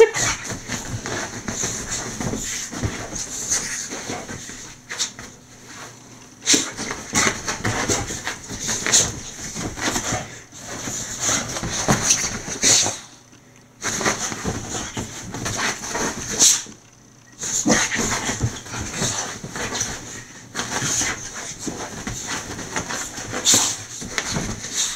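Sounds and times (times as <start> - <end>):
fabric rustling and scuffing: 0.1 - 12.7, 17.4 - 24.9.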